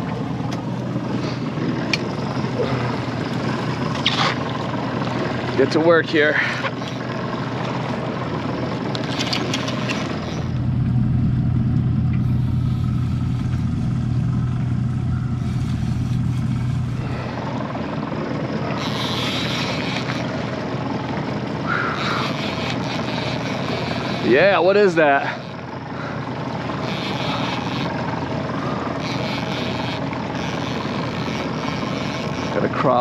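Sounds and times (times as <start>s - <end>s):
outboard motors droning: 0.0s - 33.0s.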